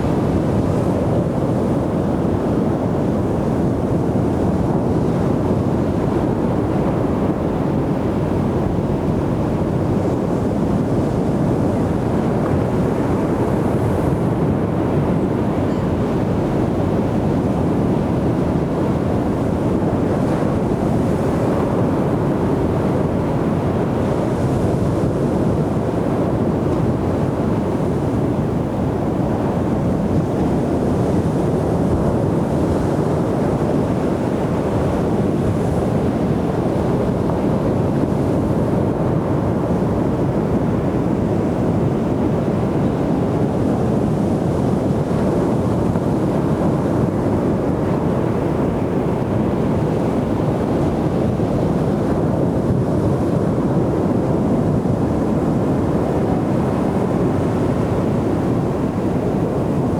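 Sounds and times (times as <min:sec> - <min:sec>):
ocean surf on a beach: 0:00.0 - 0:59.9.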